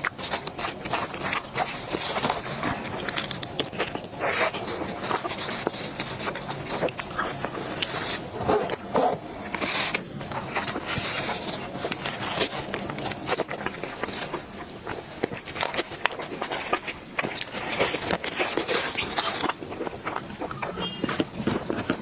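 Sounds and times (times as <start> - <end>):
chewing and eating dessert: 0.0 - 22.0.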